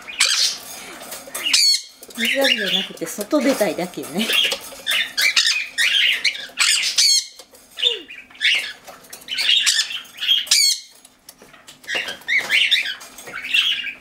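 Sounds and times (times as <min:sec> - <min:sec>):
cockatiels squawking: 0:00.0 - 0:03.0, 0:04.2 - 0:14.0.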